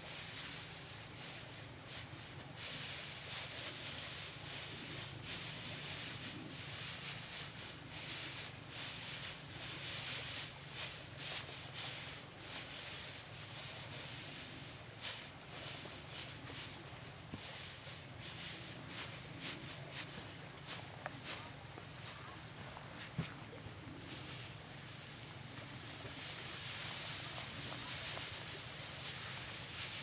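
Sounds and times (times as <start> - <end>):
dry straw rustling: 0.0 - 30.0.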